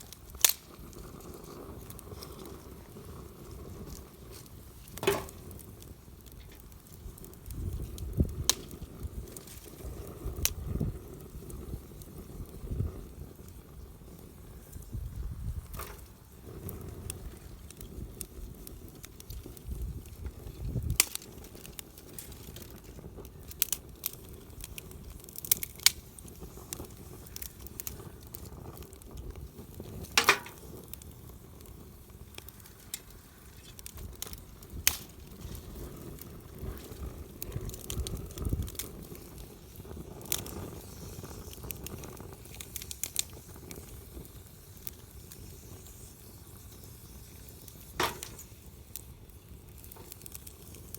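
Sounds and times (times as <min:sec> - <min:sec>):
campfire crackling: 0:00.0 - 0:50.9
sharp pops from burning wood: 0:00.0 - 0:50.9.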